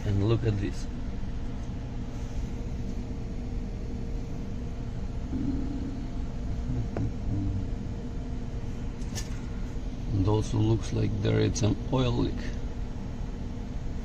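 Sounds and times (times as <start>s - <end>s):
machinery rumble and hum: 0.0s - 14.0s.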